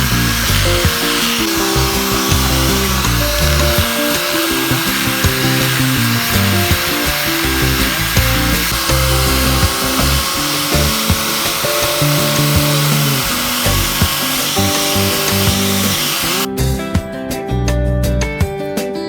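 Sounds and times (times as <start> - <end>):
power tool hissing on wood: 0.0 - 16.5
background music with bass line: 0.0 - 19.0.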